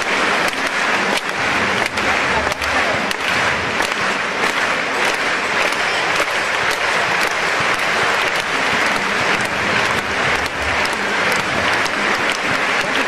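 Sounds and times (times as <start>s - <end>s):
crowd clapping in rhythm: 0.0s - 13.0s.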